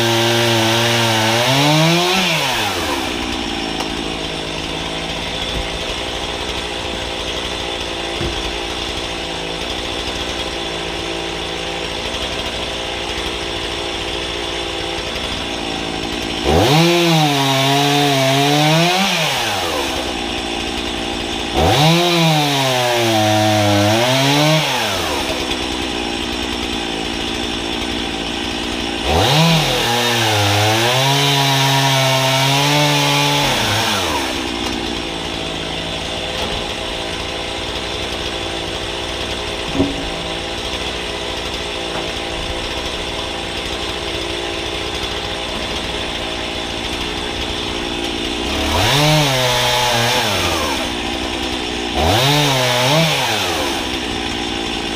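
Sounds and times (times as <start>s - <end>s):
chainsaw revving and cutting logs: 0.0s - 54.9s.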